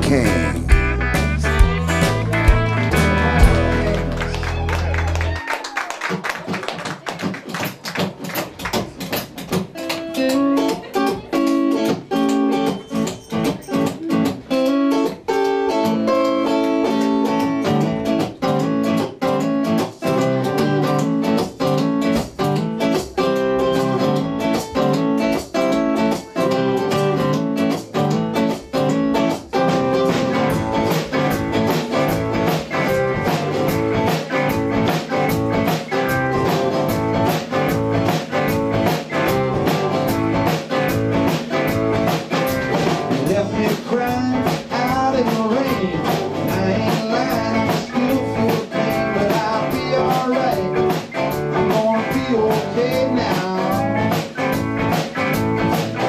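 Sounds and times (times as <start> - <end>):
rock band instrumental: 0.0 - 5.5, 7.2 - 56.0.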